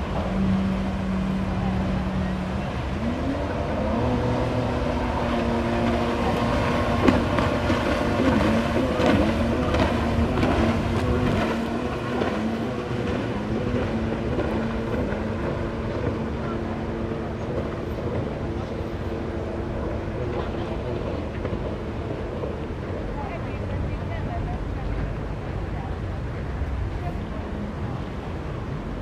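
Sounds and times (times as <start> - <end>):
jet ski engine droning: 0.0 - 29.0.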